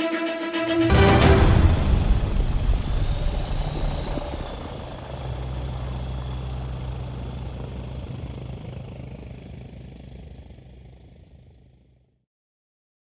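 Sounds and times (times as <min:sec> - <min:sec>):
aircraft piston engine idling: 0:01.0 - 0:12.1.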